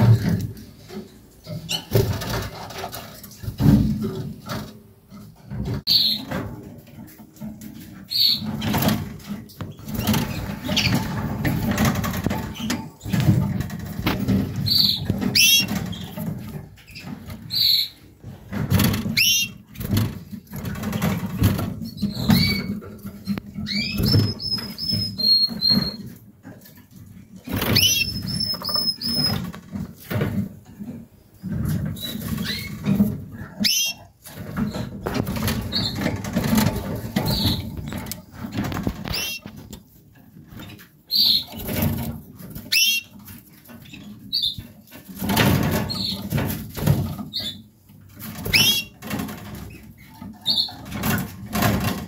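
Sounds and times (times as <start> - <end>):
canaries chirping: 5.9 - 6.5, 7.1 - 26.2, 26.9 - 29.8, 31.4 - 39.7, 40.4 - 52.0.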